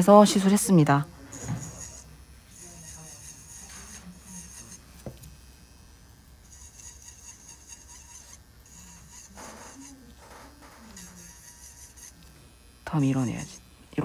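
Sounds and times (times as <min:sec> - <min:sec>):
electric nail drill whine: 0:00.0 - 0:14.0.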